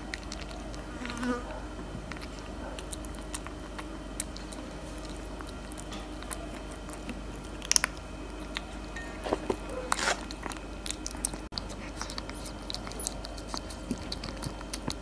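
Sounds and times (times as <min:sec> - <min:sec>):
kitten chewing food: 0:00.0 - 0:15.0.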